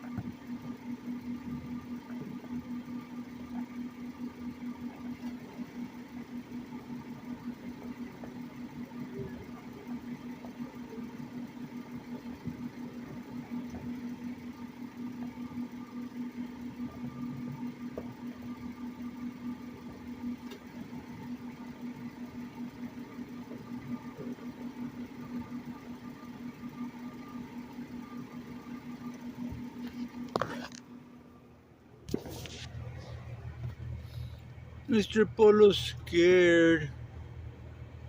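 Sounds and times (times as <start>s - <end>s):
low mechanical hum with flutter: 0.0s - 38.0s.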